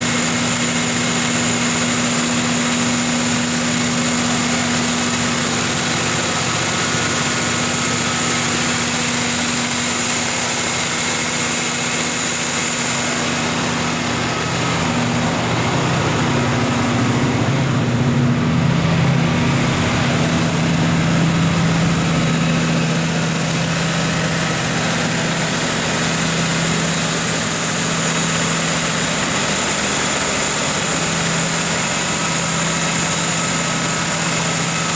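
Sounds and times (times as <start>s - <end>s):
diesel generator humming: 0.0s - 34.9s.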